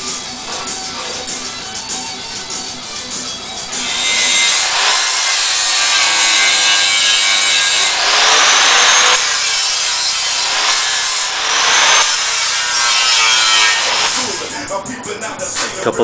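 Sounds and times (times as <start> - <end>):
angle grinder grinding steel: 0.0 - 14.6.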